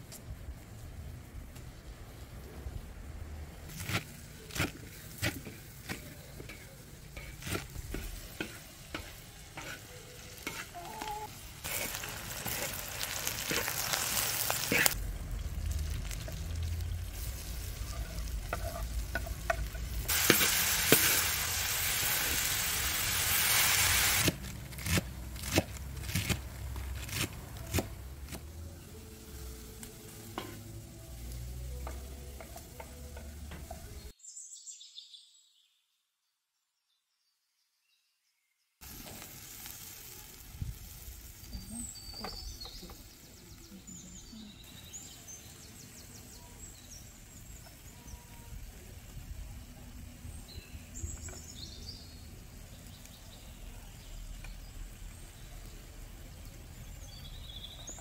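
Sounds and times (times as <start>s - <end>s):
herbs sizzling in hot oil: 3.8s - 34.1s, 38.8s - 58.0s.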